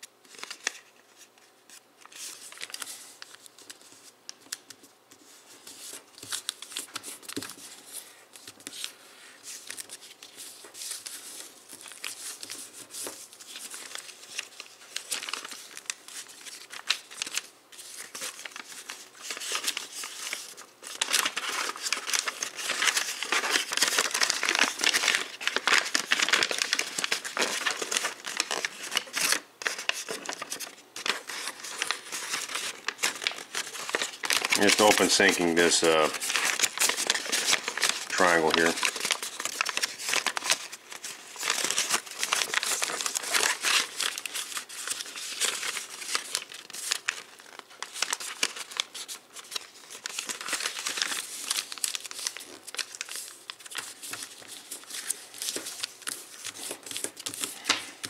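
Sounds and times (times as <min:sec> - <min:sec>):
paper crinkling and rustling: 0:00.0 - 0:58.0.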